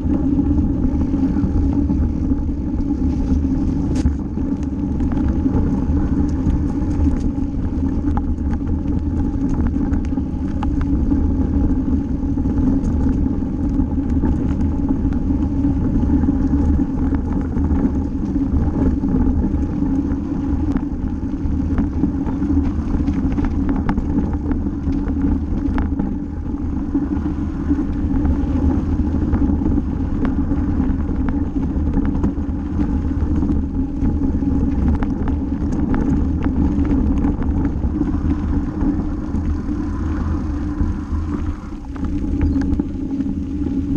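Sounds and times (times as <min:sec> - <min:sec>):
bike tyres rumbling on gravel: 0:00.0 - 0:43.9.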